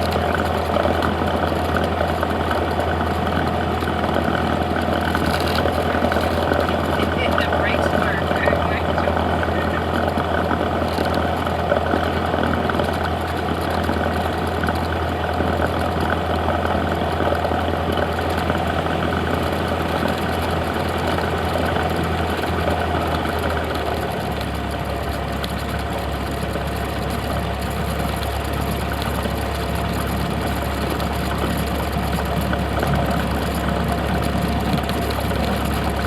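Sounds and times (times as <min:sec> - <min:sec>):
propeller plane engine drone: 0:00.0 - 0:36.0.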